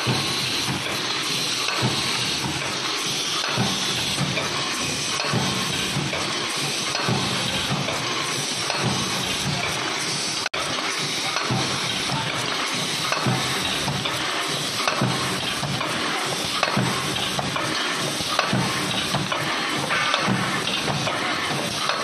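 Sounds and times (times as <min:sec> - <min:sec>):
machine hissing: 0:00.0 - 0:22.0.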